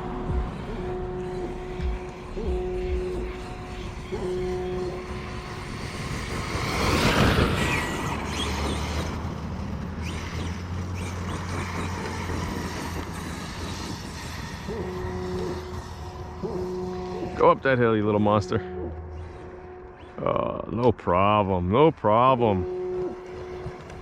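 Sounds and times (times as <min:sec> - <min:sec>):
rc truck driving over rough ground: 0:00.0 - 0:21.5, 0:22.6 - 0:24.0.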